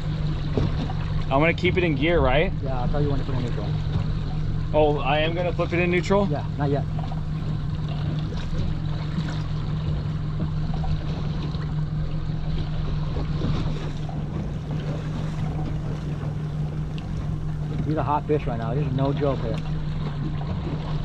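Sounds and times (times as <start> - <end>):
outboard motor humming: 0.0 - 21.0
water washing along hull: 0.0 - 21.0.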